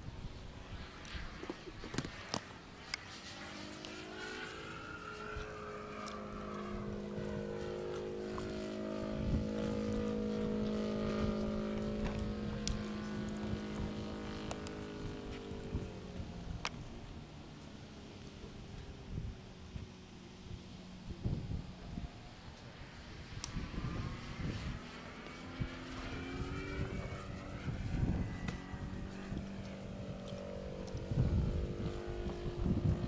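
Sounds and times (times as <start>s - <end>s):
model plane motor droning: 0.0s - 33.0s.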